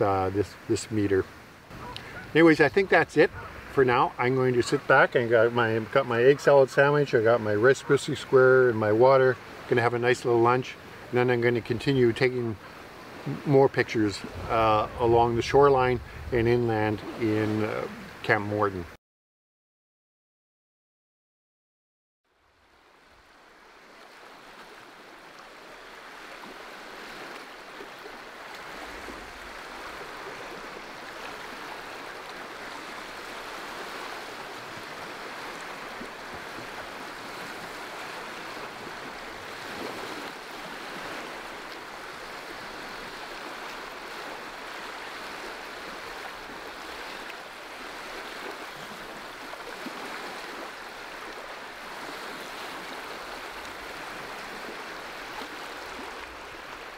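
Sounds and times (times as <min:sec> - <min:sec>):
lake water washing on shore: 0:00.0 - 0:18.9, 0:22.6 - 0:56.9.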